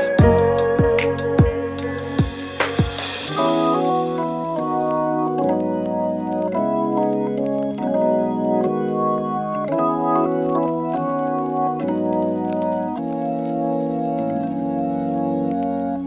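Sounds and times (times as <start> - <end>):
organ-like keyboard chords: 0.0 - 16.0.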